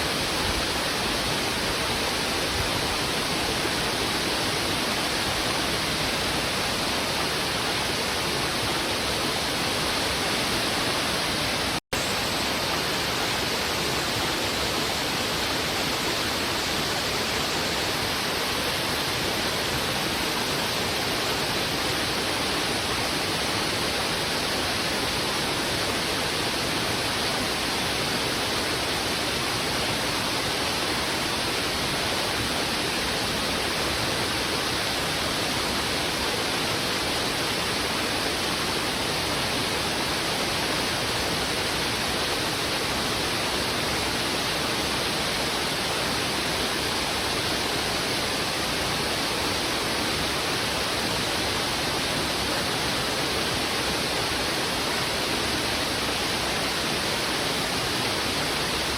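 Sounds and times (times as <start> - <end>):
river water rushing over rocks: 0.0 - 58.9.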